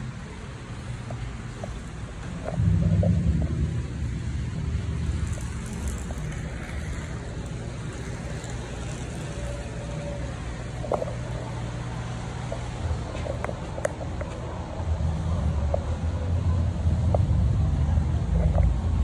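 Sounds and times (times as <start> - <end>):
model trains rumbling: 0.0 - 19.0.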